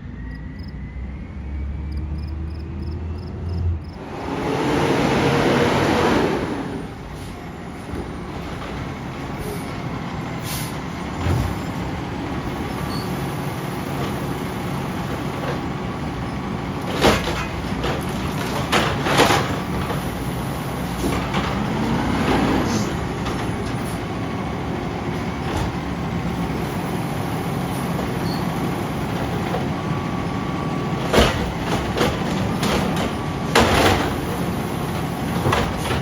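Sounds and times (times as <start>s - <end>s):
truck engine running: 3.8s - 36.0s.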